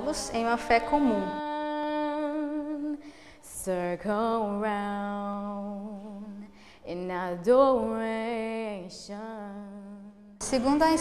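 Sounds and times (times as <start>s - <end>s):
person singing slow song: 0.0s - 11.0s.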